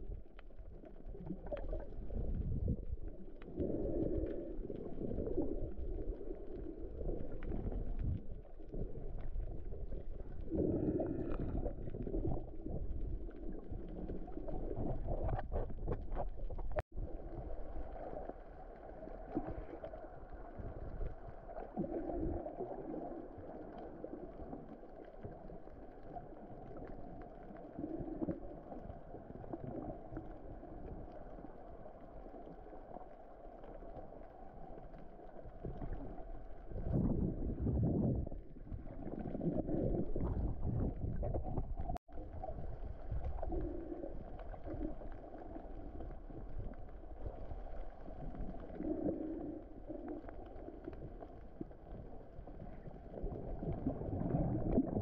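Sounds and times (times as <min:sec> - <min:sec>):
muffled underwater water rush: 0:00.0 - 0:55.0.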